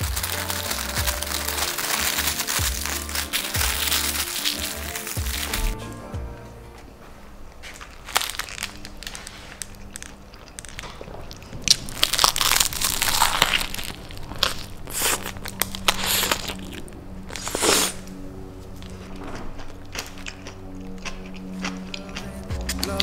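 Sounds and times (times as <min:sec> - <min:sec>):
chewing crunchy sandwich: 0:00.0 - 0:05.8, 0:07.7 - 0:23.0
paper wrapper crinkling: 0:00.0 - 0:05.9, 0:07.2 - 0:20.7.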